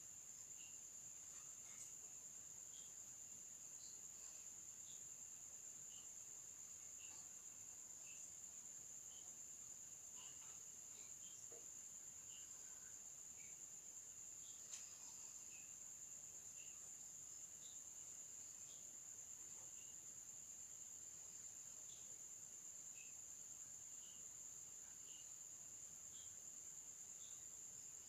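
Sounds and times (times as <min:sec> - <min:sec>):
cricket trill: 0:00.0 - 0:28.0
faint chirps: 0:00.0 - 0:28.0.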